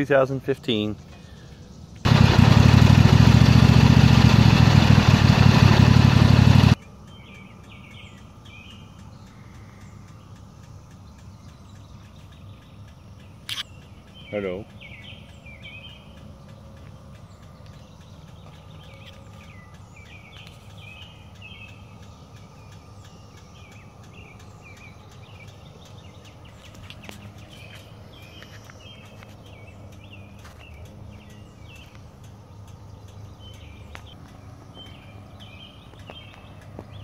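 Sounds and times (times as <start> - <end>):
birds singing chirpy phrases: 0.0 - 2.1, 6.8 - 37.0
cicada chorus drone: 6.0 - 37.0.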